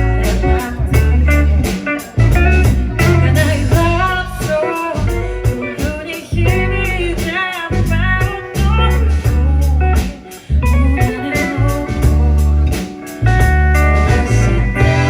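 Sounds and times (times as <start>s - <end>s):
bass notes: 0.0s - 15.0s
drum beat: 0.0s - 15.0s
guitar: 0.0s - 15.0s.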